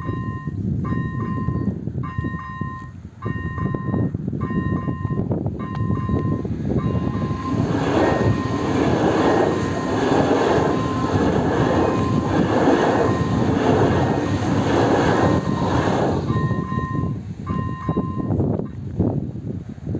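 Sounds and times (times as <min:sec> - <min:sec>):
crossing warning bell: 0:00.0 - 0:18.8
train passing at speed: 0:00.0 - 0:19.9.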